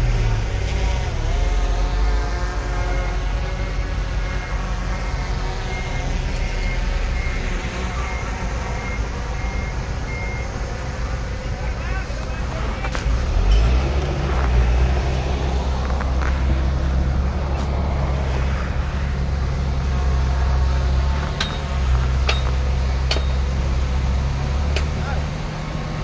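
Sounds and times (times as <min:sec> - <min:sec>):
heavy diesel engine droning: 0:00.0 - 0:26.0.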